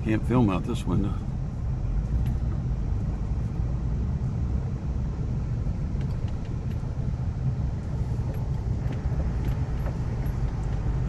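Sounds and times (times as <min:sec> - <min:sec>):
vehicle engine rumble from inside: 0:00.0 - 0:11.0.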